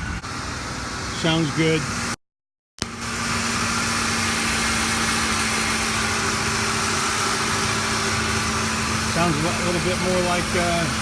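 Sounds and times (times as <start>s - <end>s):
truck engine idling: 0.0s - 2.2s, 2.8s - 11.0s.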